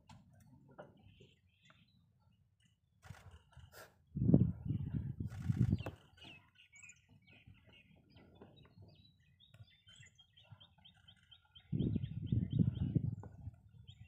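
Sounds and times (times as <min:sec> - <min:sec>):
bird chirping: 0:00.9 - 0:02.8, 0:04.3 - 0:14.0.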